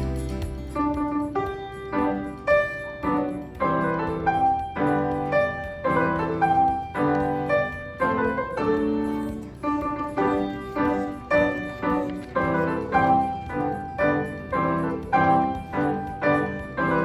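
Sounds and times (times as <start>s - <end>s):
solo piano chords: 0.0s - 17.0s.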